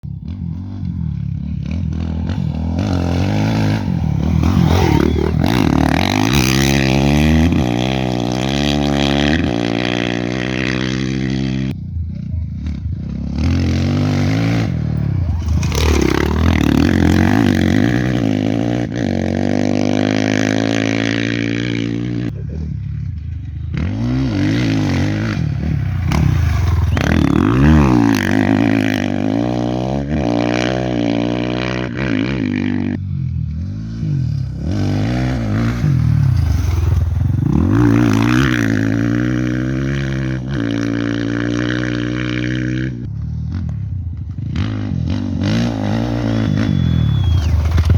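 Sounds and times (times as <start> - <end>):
motorcycles passing at full speed: 0.0 - 47.9.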